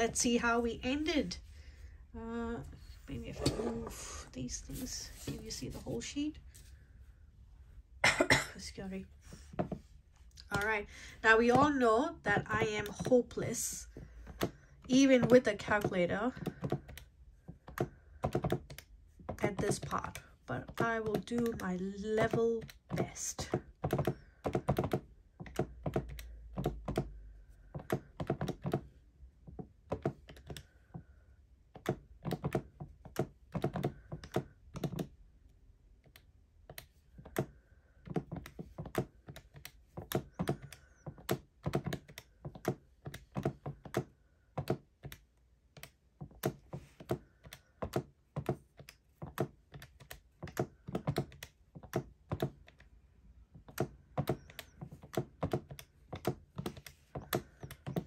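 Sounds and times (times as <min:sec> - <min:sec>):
calculator keys clicking: 0:10.4 - 0:35.2, 0:35.9 - 0:58.0.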